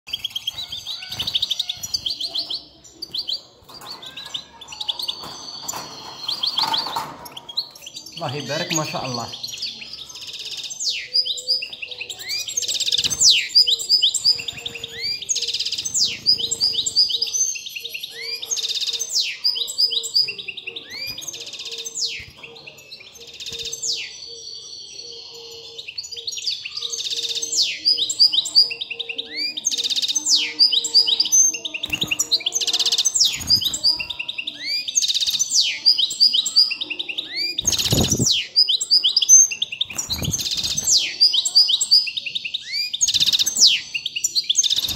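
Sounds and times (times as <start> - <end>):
bird twittering song: 0.0 - 44.9.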